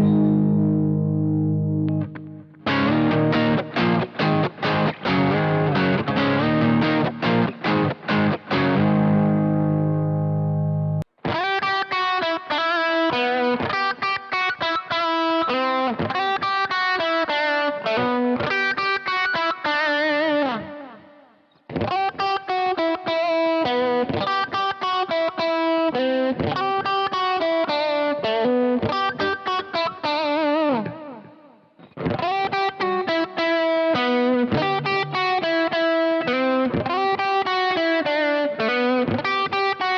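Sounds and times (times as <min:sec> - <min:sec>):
distorted electric guitar chords: 0:00.0 - 0:21.0, 0:21.7 - 0:39.9
electric guitar lead lines: 0:00.0 - 0:39.9.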